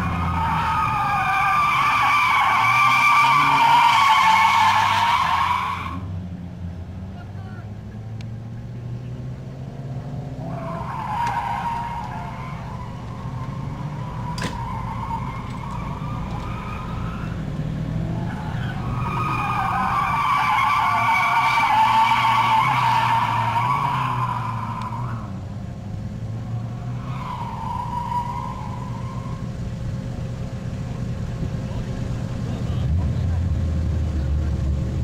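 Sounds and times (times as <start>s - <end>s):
tires squealing: 0.0s - 6.1s, 7.0s - 35.0s
car engine under load: 0.0s - 35.0s.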